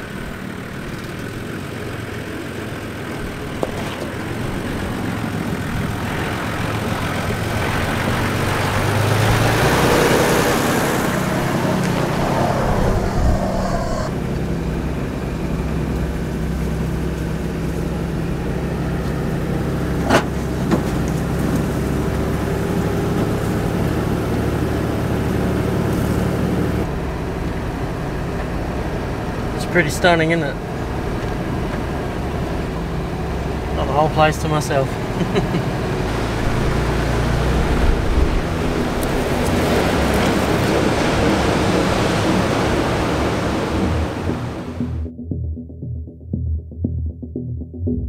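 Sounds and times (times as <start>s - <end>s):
vehicle engine and tyres on sand: 0.0s - 45.1s.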